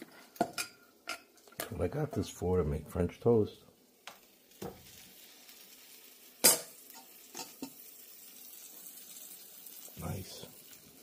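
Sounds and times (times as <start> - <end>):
toast sizzling in a pan: 0.0 - 11.0.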